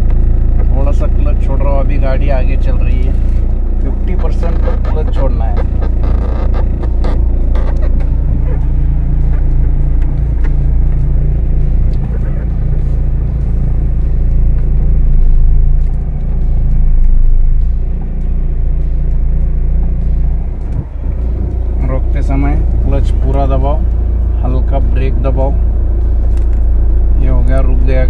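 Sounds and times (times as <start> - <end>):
car engine idling: 0.0 - 28.0
road rumble: 0.0 - 28.0.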